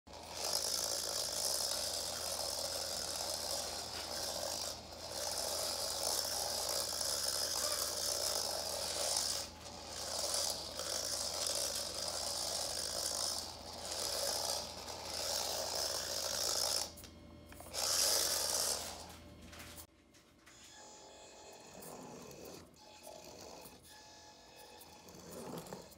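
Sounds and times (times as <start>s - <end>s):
toy car motor whining: 0.1s - 19.2s, 20.5s - 25.9s.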